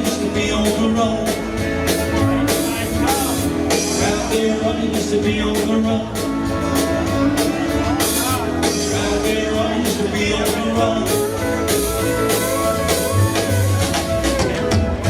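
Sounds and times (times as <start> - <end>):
live country band playing: 0.0 - 15.0.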